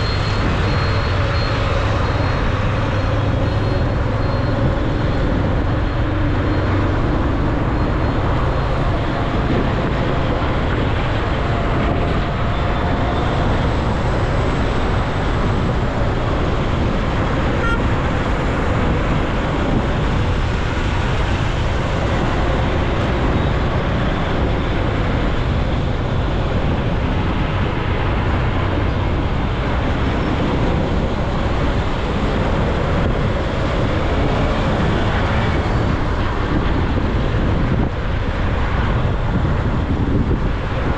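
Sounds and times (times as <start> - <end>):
motorcycle riding: 0.0 - 40.9
surrounding traffic: 0.0 - 40.9.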